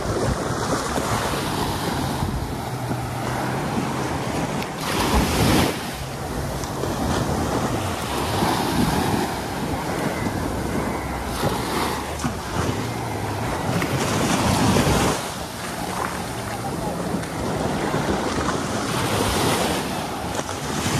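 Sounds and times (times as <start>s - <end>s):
sea waves washing onto beach: 0.0s - 20.9s
wind buffeting microphone: 0.0s - 20.9s.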